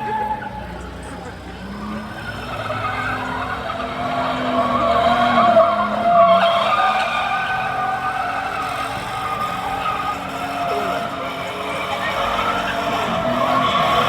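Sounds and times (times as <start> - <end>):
car engine: 0.0 - 14.0
tires squealing: 0.0 - 14.0.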